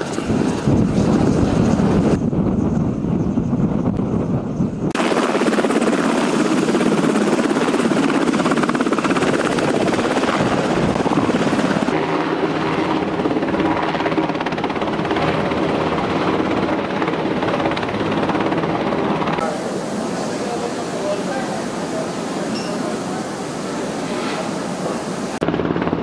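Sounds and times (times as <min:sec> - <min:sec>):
helicopter rotor beating: 0:00.0 - 0:26.0
turbine noise: 0:00.0 - 0:26.0.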